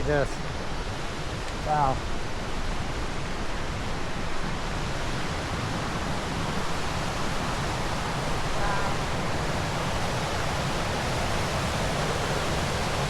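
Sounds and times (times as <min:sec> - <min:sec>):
white water rushing: 0:00.0 - 0:13.0.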